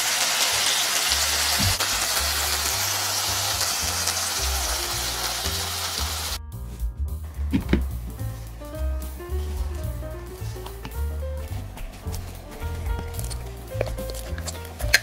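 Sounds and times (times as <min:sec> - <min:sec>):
hot oil sizzling: 0:00.0 - 0:06.4, 0:09.1 - 0:15.0
background music with bass line: 0:01.1 - 0:15.0.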